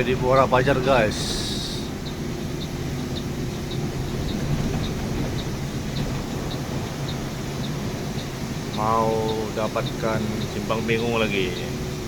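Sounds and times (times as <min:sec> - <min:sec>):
bus engine and road hum: 0:00.0 - 0:12.0
turn signal ticking: 0:00.0 - 0:12.0.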